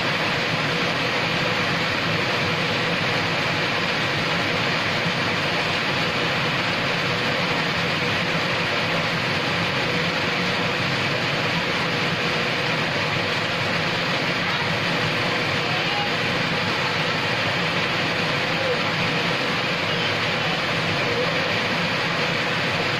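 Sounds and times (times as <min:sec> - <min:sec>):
rain falling: 0:00.0 - 0:22.9.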